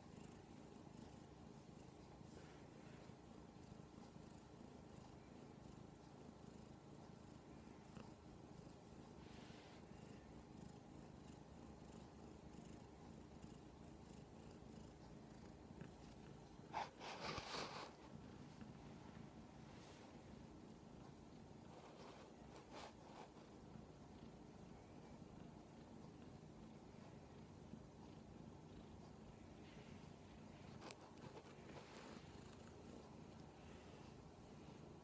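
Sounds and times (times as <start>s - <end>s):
kitten purring: 0.0s - 35.0s.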